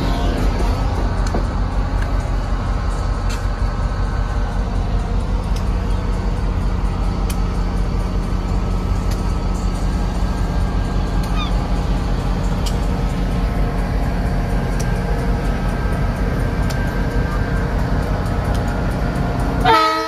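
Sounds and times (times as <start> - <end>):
locomotive engine idling: 0.0 - 20.0.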